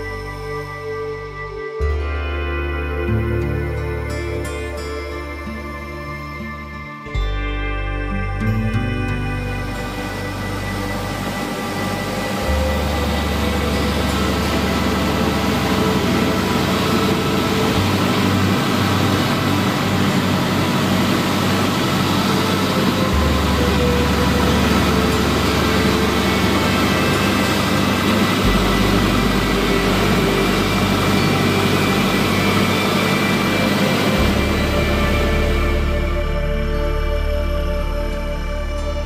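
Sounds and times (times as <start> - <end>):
plane engine and propeller drone: 0.0 - 39.0
slow ambient music: 0.0 - 39.0.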